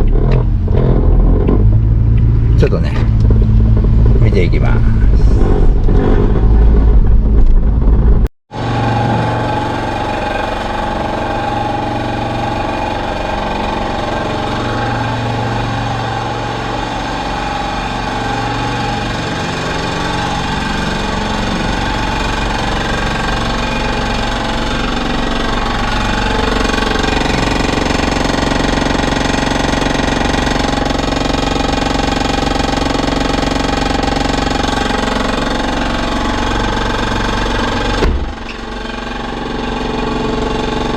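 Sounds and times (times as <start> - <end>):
car engine idling: 0.0 - 40.9
loud low rumble: 0.0 - 40.9.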